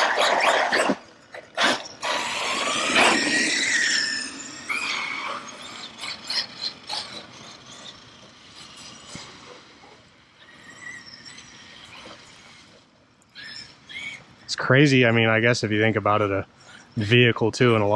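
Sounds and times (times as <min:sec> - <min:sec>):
electric motor whining: 0:00.0 - 0:14.4.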